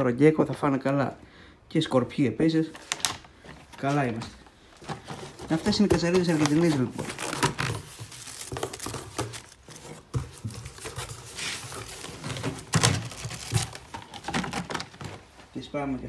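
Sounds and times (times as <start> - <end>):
cardboard packaging rustling: 2.6 - 15.6.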